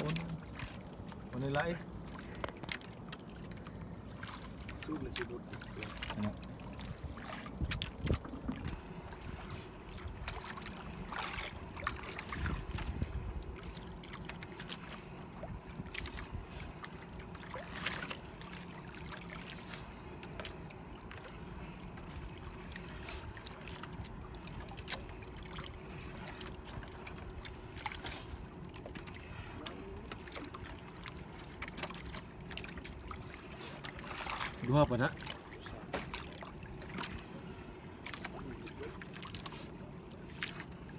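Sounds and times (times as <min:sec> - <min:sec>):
knocks and clicks from boat: 0:00.0 - 0:03.8, 0:04.6 - 0:39.5
water lapping against boat: 0:00.0 - 0:40.9.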